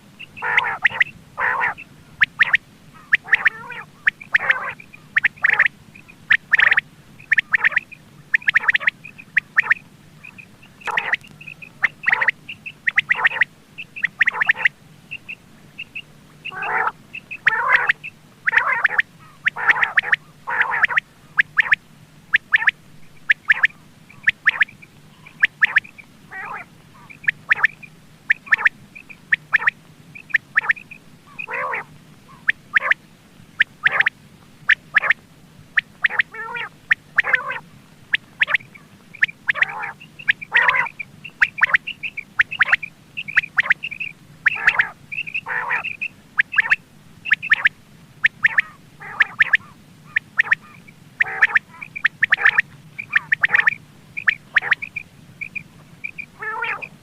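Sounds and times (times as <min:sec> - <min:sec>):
quail calling: 0:00.0 - 0:33.0, 0:33.6 - 0:57.0
faint steady hum: 0:00.0 - 0:57.0.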